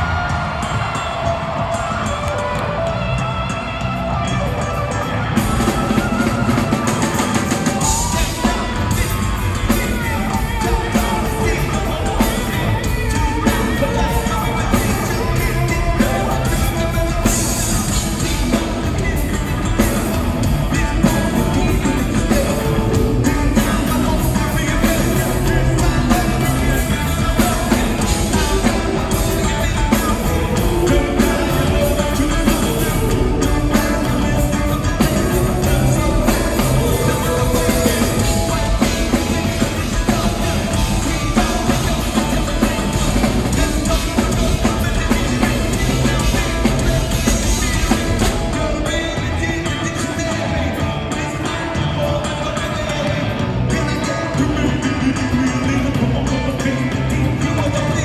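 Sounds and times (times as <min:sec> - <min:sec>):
bass guitar: 0:00.0 - 0:58.0
drum kit: 0:00.0 - 0:58.0
electric guitar: 0:00.0 - 0:58.0
person singing: 0:00.0 - 0:58.0.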